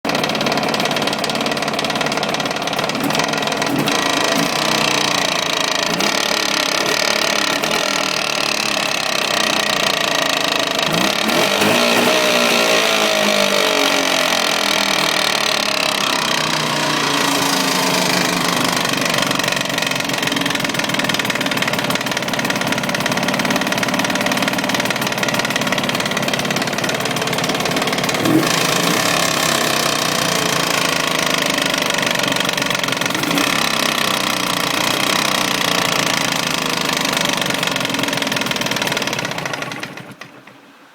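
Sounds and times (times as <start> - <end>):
two-stroke engine running with knock: 0.0 - 40.6.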